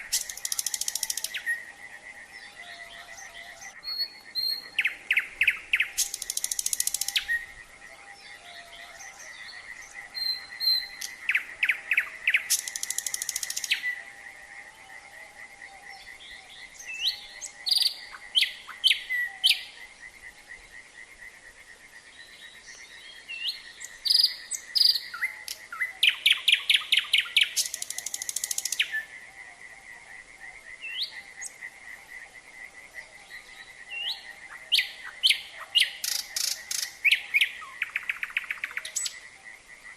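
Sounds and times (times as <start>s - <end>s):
frogs calling in chorus: 0.0s - 39.9s
nightingale singing: 0.0s - 39.9s.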